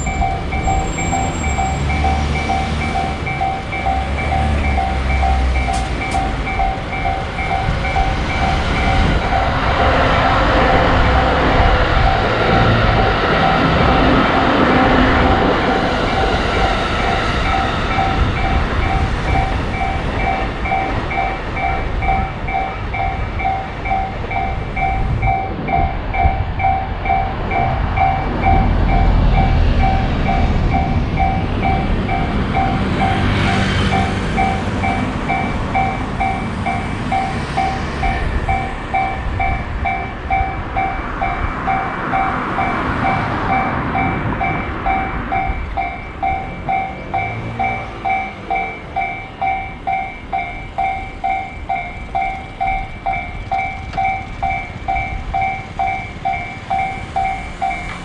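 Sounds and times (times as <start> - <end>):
crossing warning bell ringing: 0.0 - 58.0
train rumbling past: 0.0 - 58.0.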